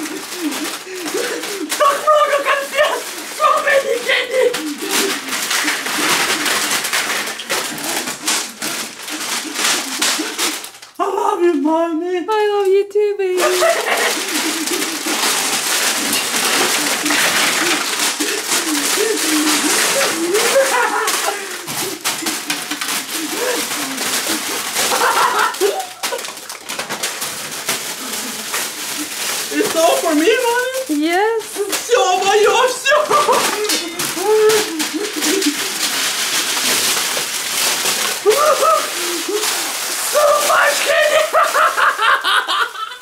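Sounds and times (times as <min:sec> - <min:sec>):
plastic bags crinkling: 0:00.0 - 0:11.3, 0:13.3 - 0:43.0
candies scattering: 0:00.0 - 0:11.6, 0:13.2 - 0:43.0.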